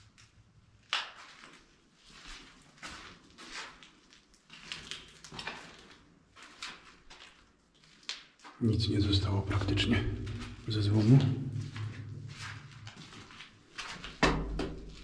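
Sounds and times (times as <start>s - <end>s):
footsteps on debris-strewn concrete: 1.0s - 15.0s.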